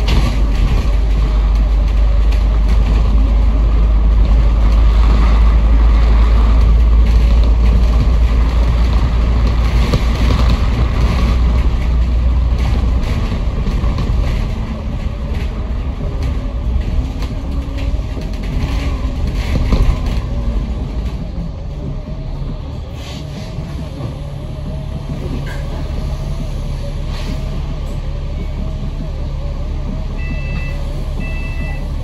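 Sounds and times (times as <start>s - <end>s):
bus engine and road rumble: 0.0s - 32.0s.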